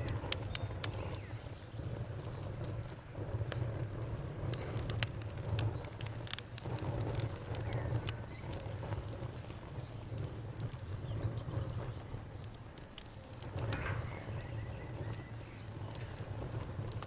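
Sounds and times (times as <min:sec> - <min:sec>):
campfire crackling and popping: 0:00.0 - 0:17.0
crickets chirping: 0:00.0 - 0:17.0.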